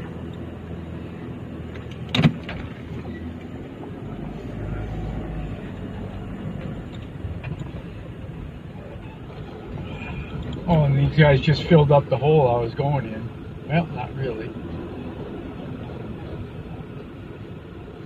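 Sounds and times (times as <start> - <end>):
car engine running: 0.0 - 18.0
deep rumble: 0.0 - 18.0.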